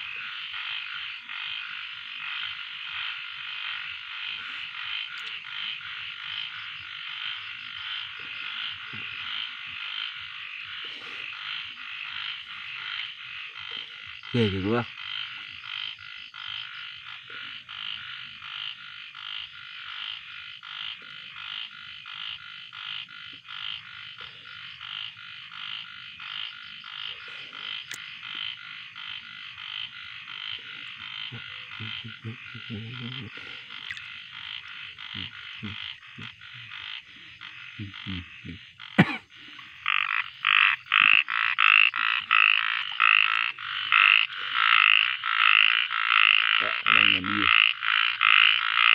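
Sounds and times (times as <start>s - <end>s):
frogs croaking: 0.0s - 48.9s.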